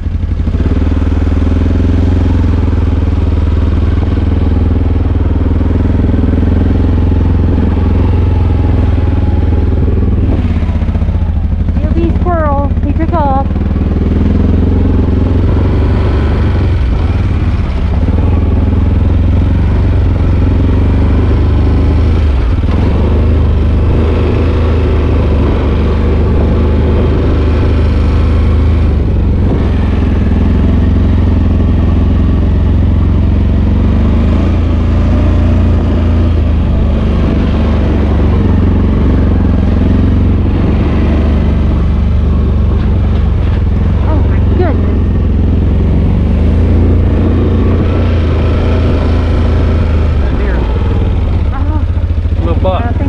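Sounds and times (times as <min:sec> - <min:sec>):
atv engine running loudly: 0:00.0 - 0:53.0.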